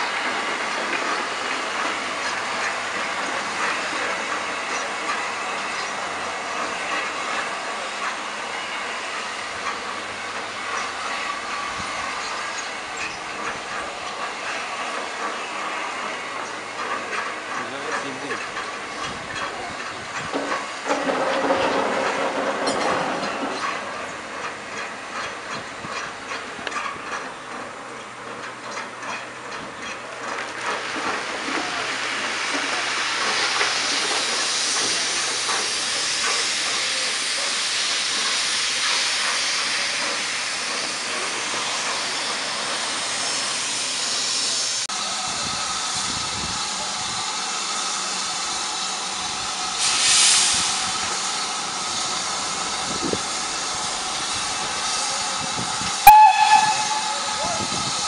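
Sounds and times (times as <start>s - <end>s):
steam hissing from locomotive: 0.0s - 26.7s, 30.5s - 58.0s.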